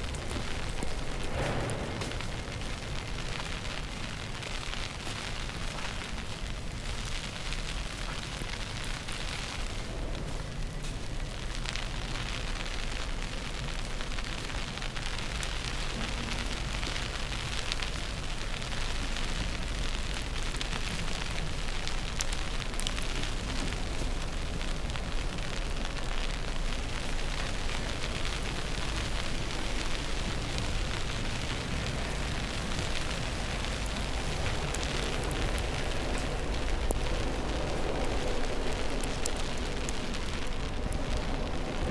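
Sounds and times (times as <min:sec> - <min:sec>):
low city rumble: 0:00.0 - 0:41.9
snow crackling against microphone: 0:00.0 - 0:41.9
snowstorm wind: 0:00.0 - 0:41.9.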